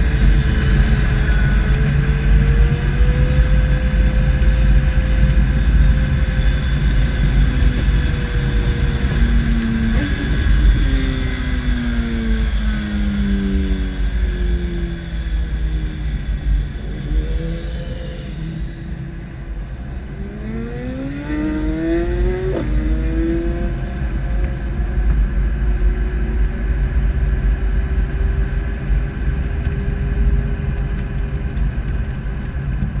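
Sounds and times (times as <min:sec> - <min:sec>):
race car engines rumbling: 0:00.0 - 0:33.0.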